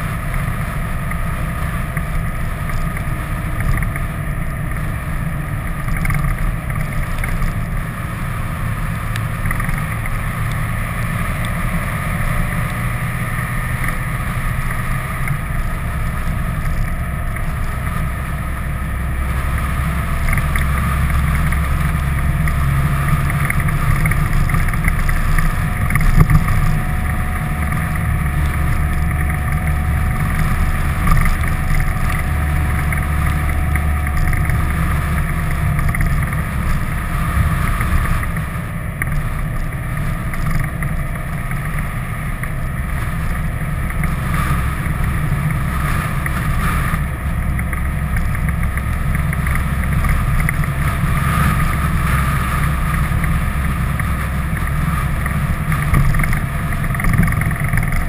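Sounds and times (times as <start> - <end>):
vehicle engine running: 0.0 - 58.0
wind rushing over camera: 0.0 - 58.0.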